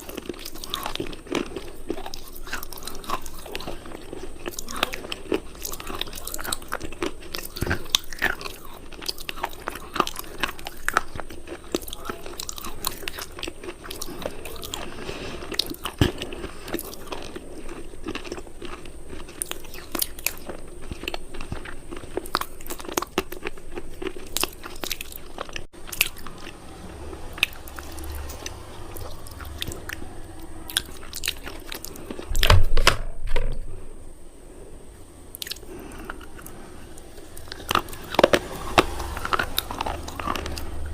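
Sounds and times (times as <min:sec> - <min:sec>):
crunching and chewing: 0:00.0 - 0:32.5, 0:34.5 - 0:40.9.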